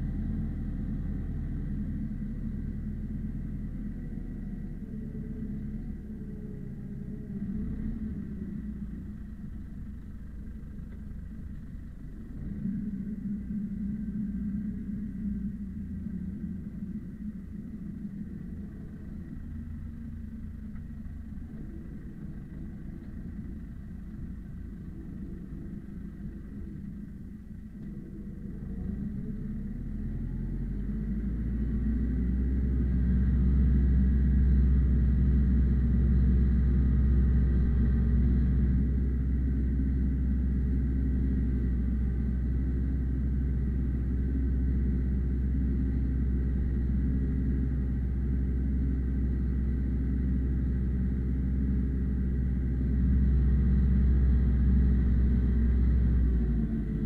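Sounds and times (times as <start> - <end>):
tractor diesel engine labouring: 0.0 - 57.0.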